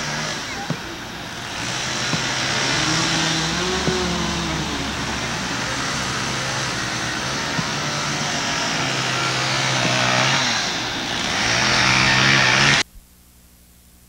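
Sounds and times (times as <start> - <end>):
engine running: 0.0 - 12.8.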